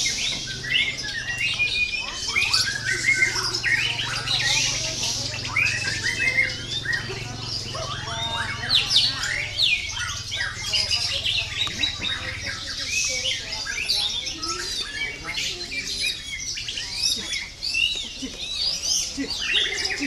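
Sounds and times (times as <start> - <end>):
bird singing: 0.0 - 20.0
songbird chorus: 0.0 - 20.0.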